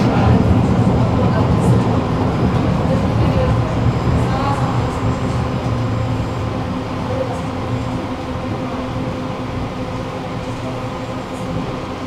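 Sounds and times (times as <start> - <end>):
tram wheels rumbling on rail: 0.0 - 12.0.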